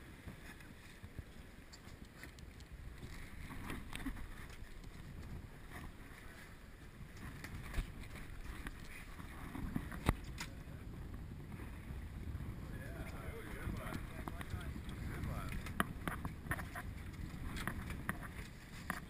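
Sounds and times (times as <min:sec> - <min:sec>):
water washing along hull: 0:00.0 - 0:19.0
wind buffeting microphone: 0:00.0 - 0:19.0.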